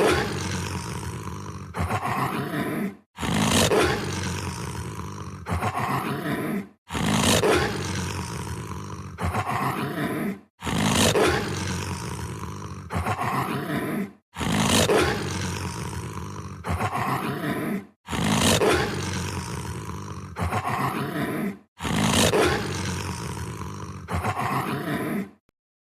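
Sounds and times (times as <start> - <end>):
monster roaring: 0.0 - 25.4.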